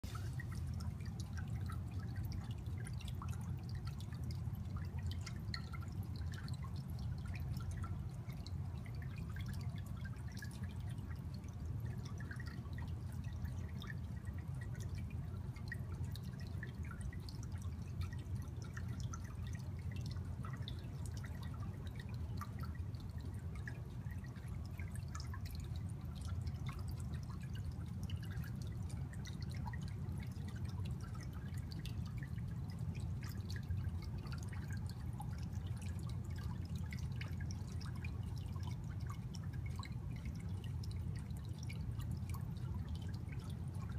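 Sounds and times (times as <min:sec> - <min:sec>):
aquarium filter hum: 0:00.0 - 0:43.9
water trickling and dripping: 0:00.0 - 0:43.9.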